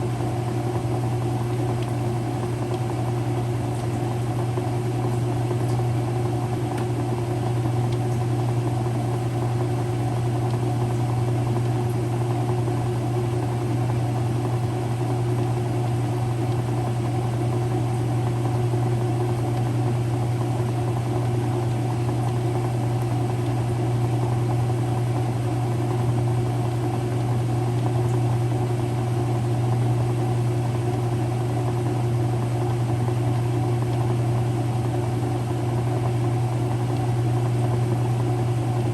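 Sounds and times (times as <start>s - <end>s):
washing machine motor hum: 0.0s - 38.9s.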